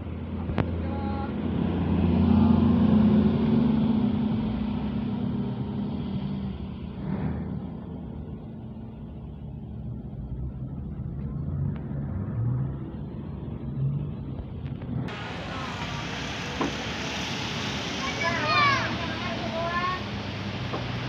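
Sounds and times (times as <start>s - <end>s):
bus diesel engine rumble: 0.0s - 21.0s
traffic noise: 0.0s - 21.0s.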